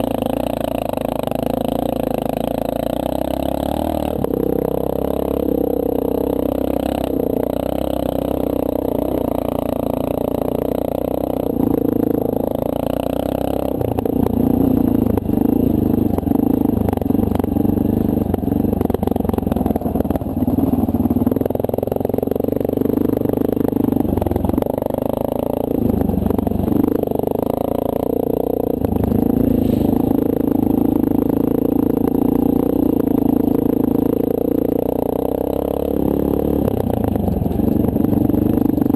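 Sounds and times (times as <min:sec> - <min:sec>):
motorcycle engine running: 0:00.0 - 0:38.9
motorcycle rattling over rough ground: 0:00.0 - 0:38.9.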